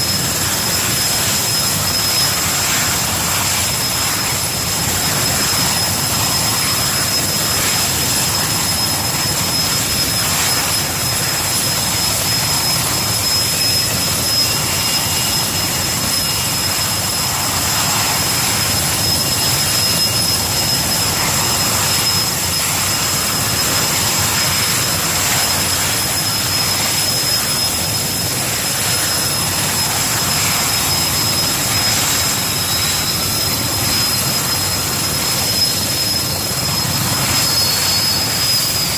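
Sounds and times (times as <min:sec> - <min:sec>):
helicopter engines running: 0:00.0 - 0:38.9
high turbine whine: 0:00.0 - 0:38.9.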